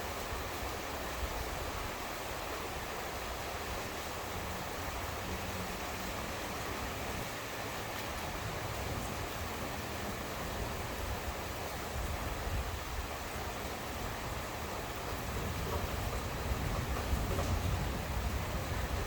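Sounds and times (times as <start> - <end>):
steady rain hissing: 0.0 - 19.0.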